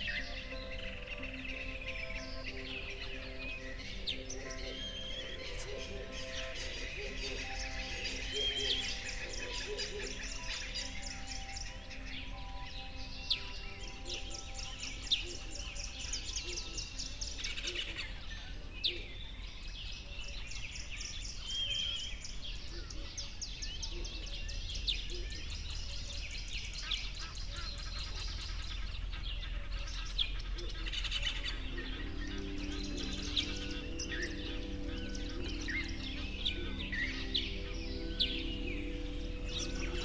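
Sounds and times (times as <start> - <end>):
birds chirping: 0.0 - 40.0
faint sustained music notes: 0.0 - 40.0.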